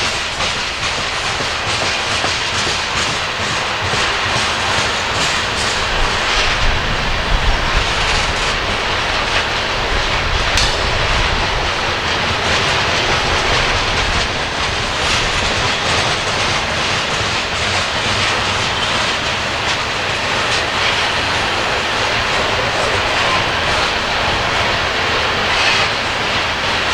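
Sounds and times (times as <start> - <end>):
train cars rolling past: 0.0 - 26.9.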